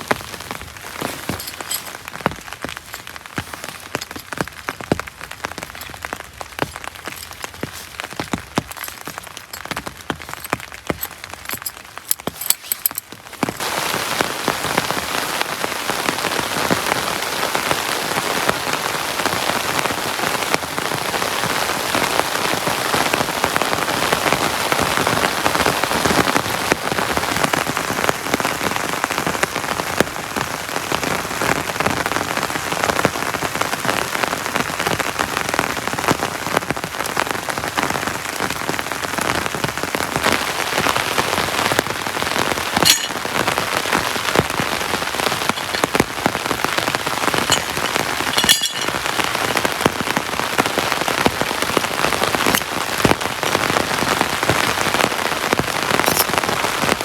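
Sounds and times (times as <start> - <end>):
rain falling: 0.0 - 57.0
scattered raindrops landing: 0.0 - 57.0.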